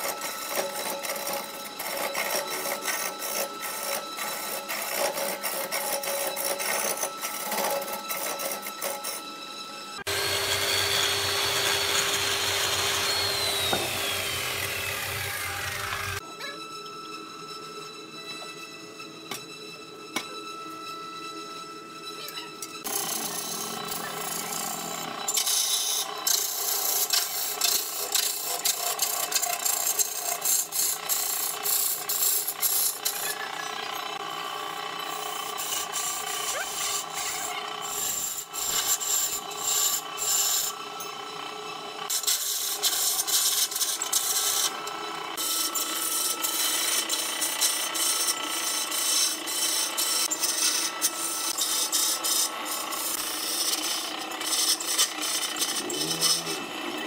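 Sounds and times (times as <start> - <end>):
chisel cutting spinning wood: 0.0 - 16.2, 22.0 - 57.0
lathe motor hum: 0.0 - 16.2, 16.9 - 57.0.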